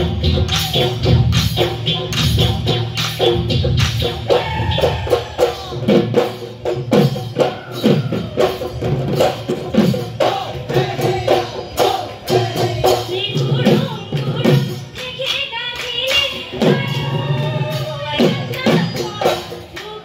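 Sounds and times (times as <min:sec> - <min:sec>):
jingling percussion: 0:00.0 - 0:20.0.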